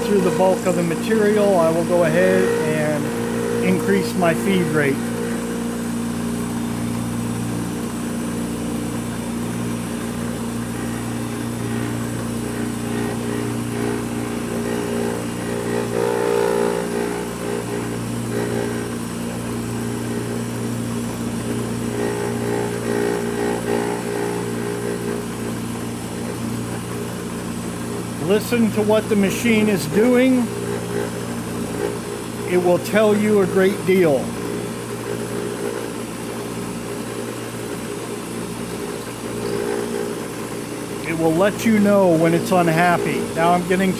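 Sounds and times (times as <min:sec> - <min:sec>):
milling machine cutting metal tube: 0:00.0 - 0:43.9.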